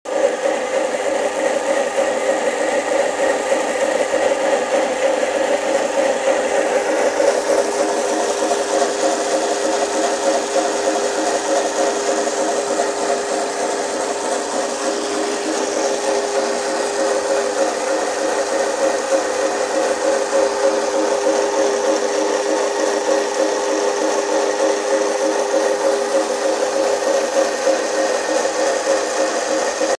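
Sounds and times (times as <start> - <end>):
pressure washer pump humming: 0.1 - 30.0.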